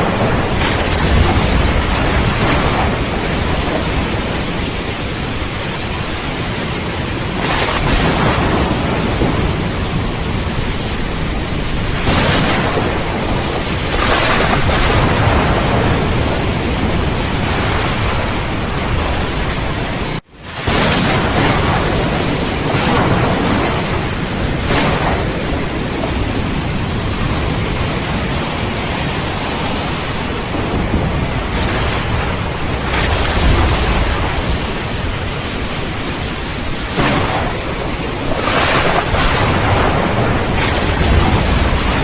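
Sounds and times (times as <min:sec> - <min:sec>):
heavy rain hiss: 0:00.0 - 0:42.0
thunder rumbling and crashing: 0:00.0 - 0:42.0.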